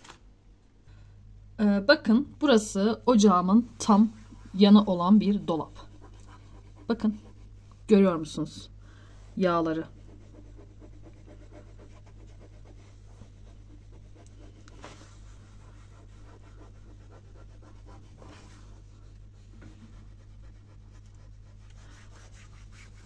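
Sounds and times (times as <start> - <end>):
steady low hum: 0.0 - 23.0
cloth scrubbing a cabinet: 3.5 - 23.0.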